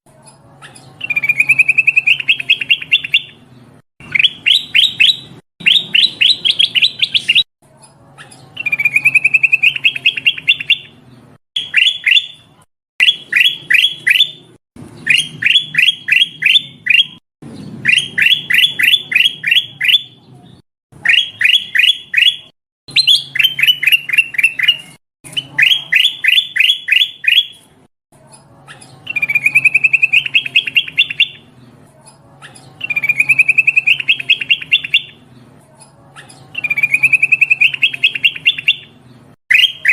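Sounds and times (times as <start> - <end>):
chattering bird trills: 0.3 - 20.3, 21.0 - 27.6, 28.3 - 39.9
bulbul calling: 0.6 - 3.4, 4.0 - 7.5, 8.2 - 11.0, 11.6 - 17.2, 17.8 - 20.2, 21.0 - 27.6, 28.7 - 31.5, 32.4 - 35.2, 36.2 - 39.9.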